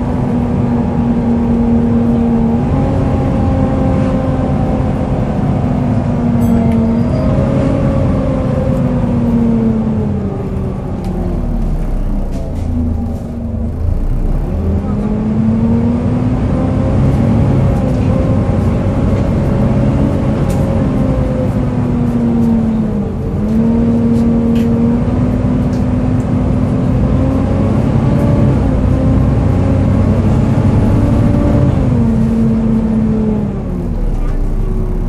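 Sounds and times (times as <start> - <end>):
bus engine running: 0.0 - 35.0.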